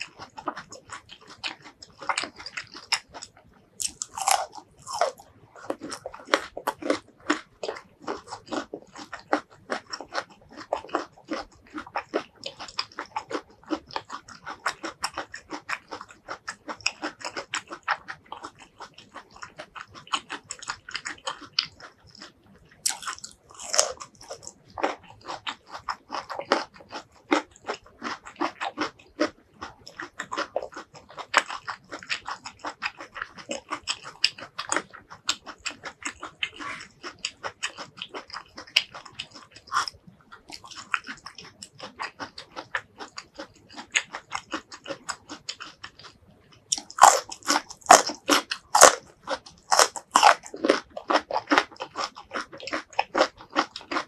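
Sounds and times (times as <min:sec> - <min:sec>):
crunching and chewing vegetables: 0:00.0 - 0:54.0.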